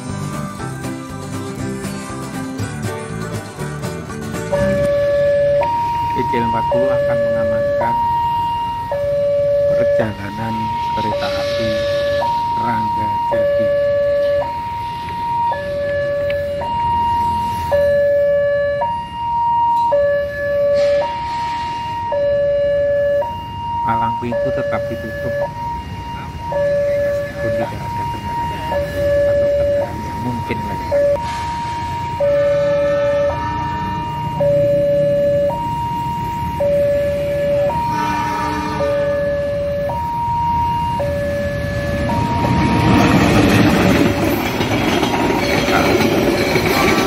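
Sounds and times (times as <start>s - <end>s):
level-crossing two-tone alarm: 4.5s - 47.0s.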